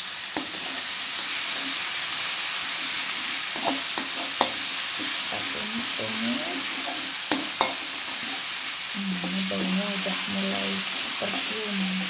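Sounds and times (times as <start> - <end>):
spice paste sizzling in oil: 0.0 - 12.0
spatula scraping metal wok: 0.3 - 12.0.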